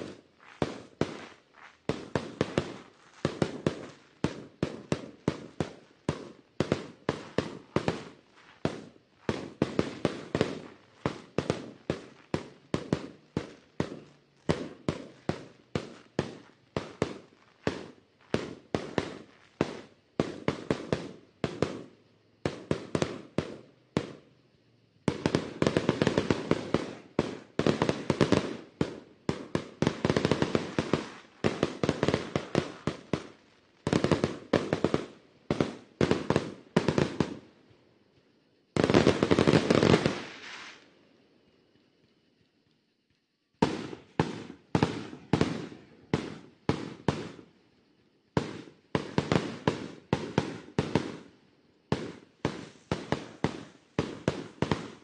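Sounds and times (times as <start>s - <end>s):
fireworks bangs and pops: 0.0s - 40.9s, 41.9s - 55.0s.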